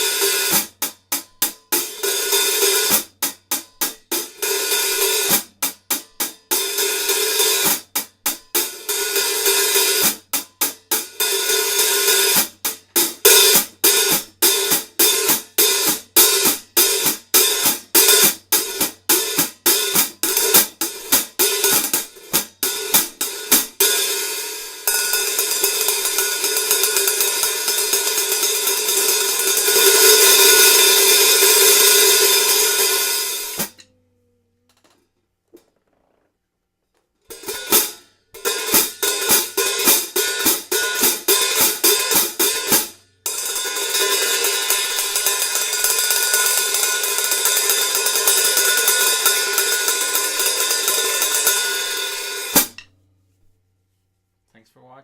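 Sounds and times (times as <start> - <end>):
hi-hat cymbal hits: 0.0 - 33.8, 37.3 - 52.9.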